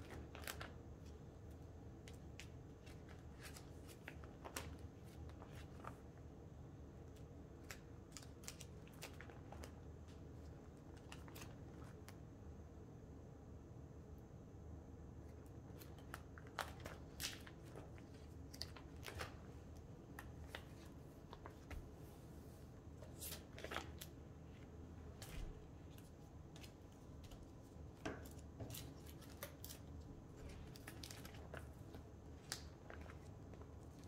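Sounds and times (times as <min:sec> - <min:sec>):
plastic sleeves crinkling: 0:00.0 - 0:01.2, 0:02.0 - 0:06.2, 0:07.1 - 0:12.2, 0:15.7 - 0:22.0, 0:22.8 - 0:34.0.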